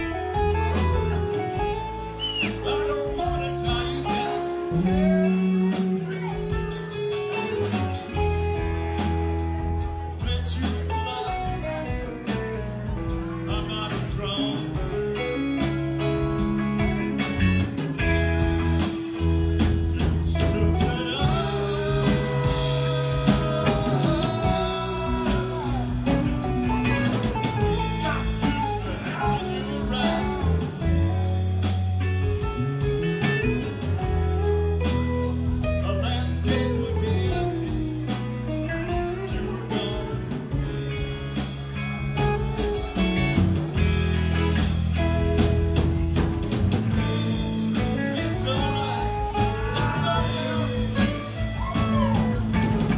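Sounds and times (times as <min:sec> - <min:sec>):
drum kit beat: 0:00.0 - 0:52.9
electric bass: 0:00.0 - 0:52.9
electric guitars: 0:00.0 - 0:52.9
gliding guitar lead line: 0:00.0 - 0:52.9
keyboard: 0:00.0 - 0:52.9.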